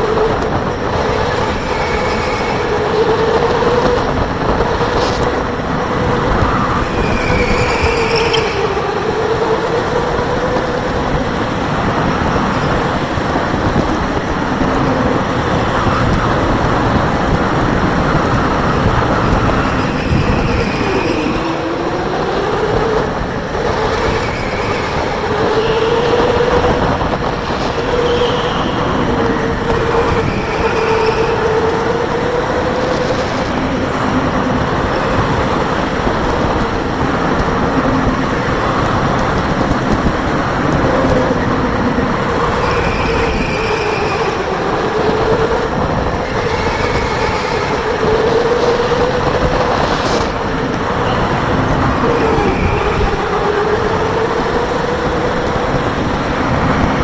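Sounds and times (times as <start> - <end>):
electric go-kart motor whine: 0.0 - 57.0
loud steady rushing noise: 0.0 - 57.0.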